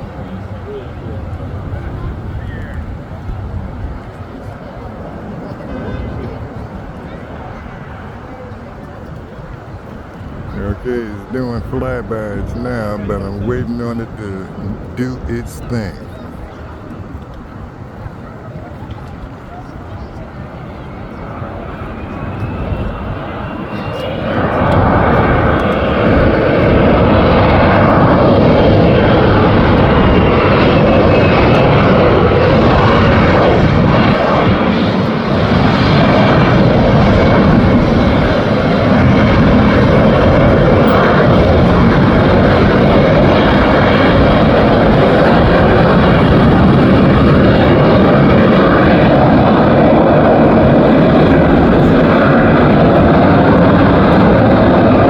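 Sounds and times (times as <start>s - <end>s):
jet engine roaring: 0.0s - 55.0s.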